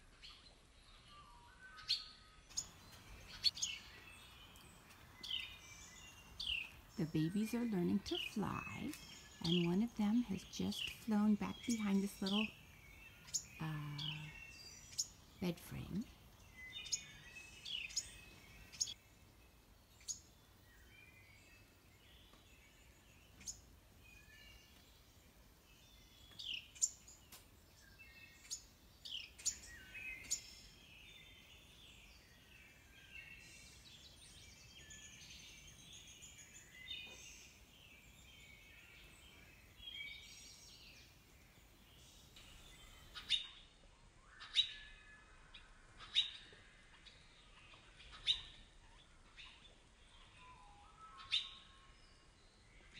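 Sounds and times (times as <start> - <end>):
birds twittering: 0.0 - 52.9.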